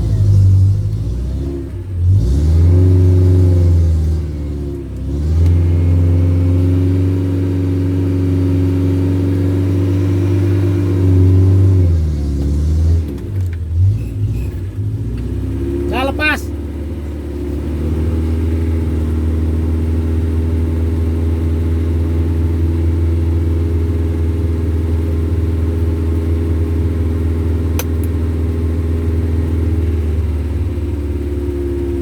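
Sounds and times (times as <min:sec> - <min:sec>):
vehicle engine revving: 0:00.0 - 0:32.0.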